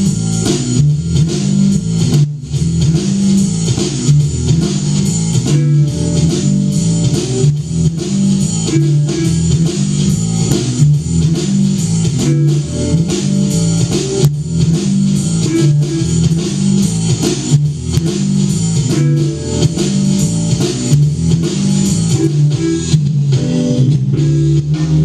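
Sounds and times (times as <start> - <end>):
drum kit beat: 0.0 - 25.0
electric bass line: 0.0 - 25.0
electric guitar: 0.0 - 25.0
keyboard: 0.0 - 25.0.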